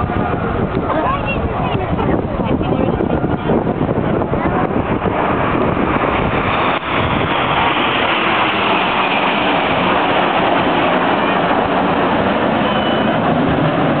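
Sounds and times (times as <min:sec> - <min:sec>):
jets flying past: 0:00.0 - 0:14.0.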